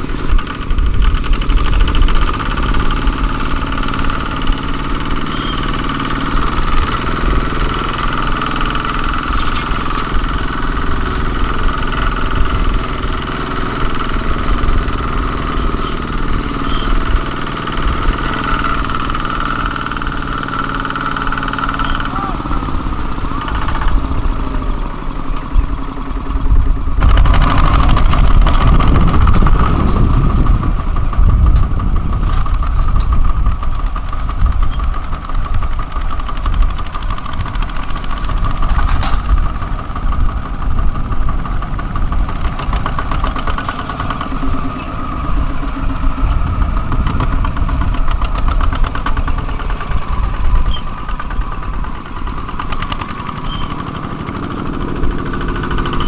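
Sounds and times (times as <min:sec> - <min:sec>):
diesel tractor engines chugging: 0:00.0 - 0:56.0.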